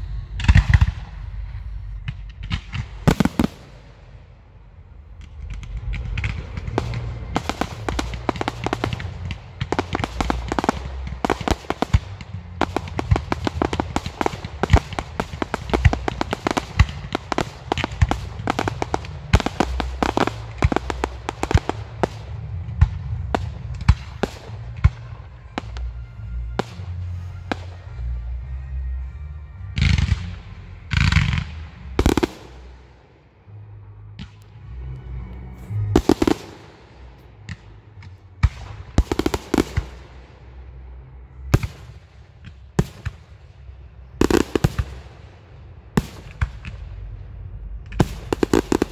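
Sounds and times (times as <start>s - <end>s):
fireworks crackling and popping: 0.0s - 28.4s, 29.8s - 33.1s, 35.6s - 40.7s, 41.5s - 45.4s, 46.0s - 47.0s, 47.8s - 48.9s.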